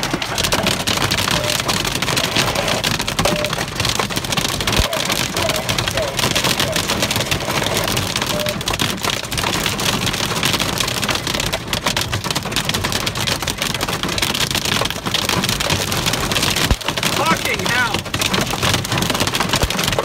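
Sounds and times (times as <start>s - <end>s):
hail and rain on car roof: 0.0s - 20.0s.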